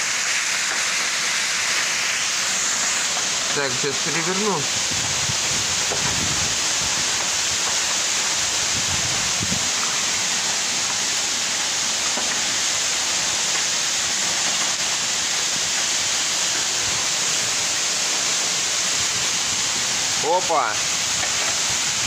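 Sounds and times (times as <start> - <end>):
high-pressure water jet hissing: 0.0 - 22.0
spray falling like heavy rain: 0.0 - 22.0.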